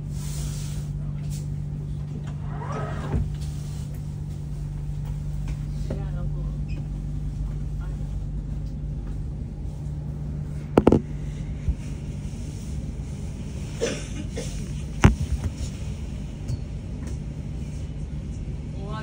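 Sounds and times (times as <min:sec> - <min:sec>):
train interior hum and rumble: 0:00.0 - 0:19.0.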